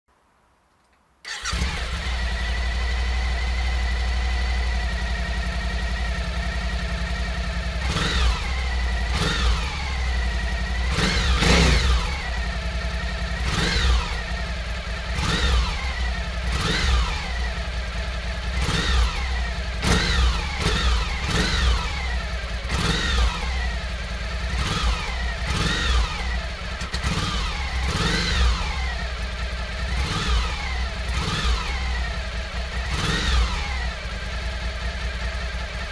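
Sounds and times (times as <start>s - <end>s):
motorcycle engine revving: 1.2s - 35.9s
motorcycle engine idling: 1.3s - 35.9s.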